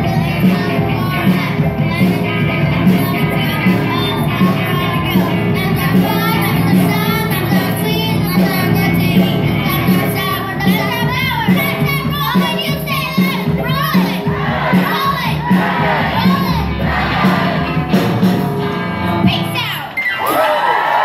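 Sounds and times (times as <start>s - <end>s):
girl singing into a microphone: 0.0s - 16.9s
drums with steady beat: 0.0s - 20.0s
electric guitar: 0.0s - 21.0s.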